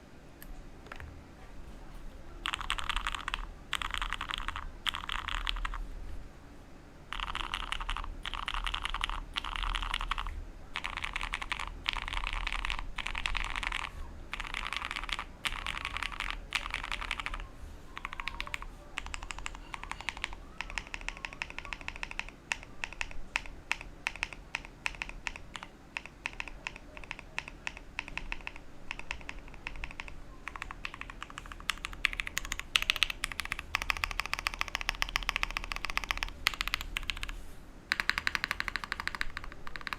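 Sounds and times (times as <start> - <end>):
mechanical keyboard typing: 0.8 - 1.1, 2.4 - 5.8, 7.1 - 39.9.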